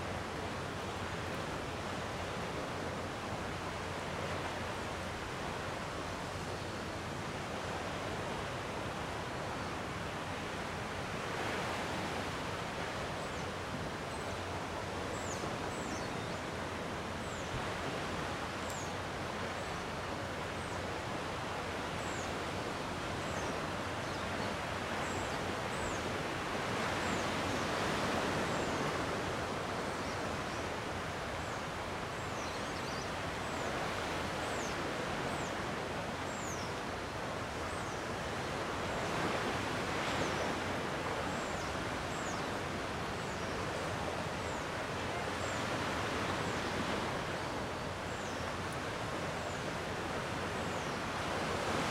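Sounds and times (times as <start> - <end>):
sea waves washing on shore: 0.0 - 51.9.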